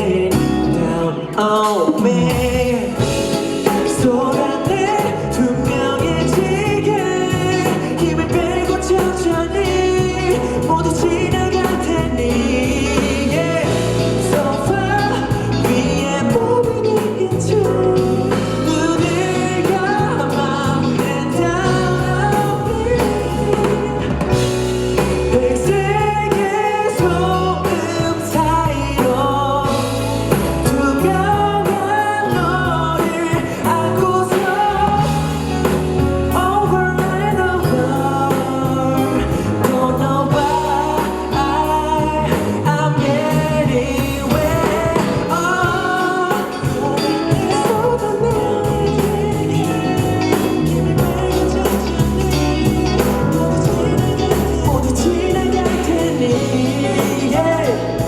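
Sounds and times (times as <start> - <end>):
pop song with singing: 0.0 - 58.0.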